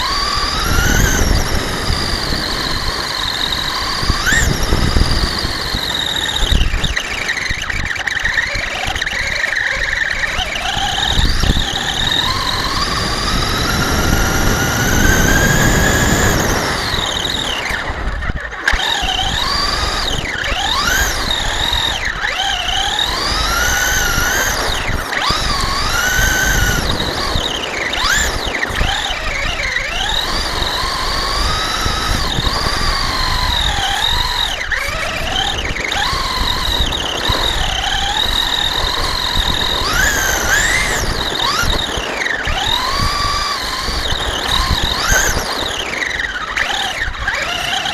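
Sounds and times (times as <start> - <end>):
rc truck motor whining: 0.0 - 47.9.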